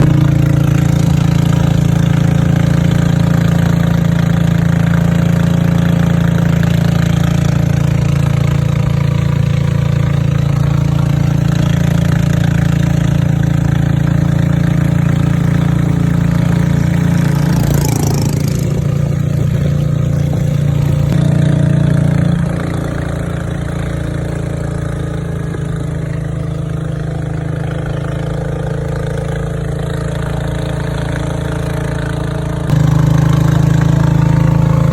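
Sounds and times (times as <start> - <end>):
boat engine humming: 0.0 - 34.9.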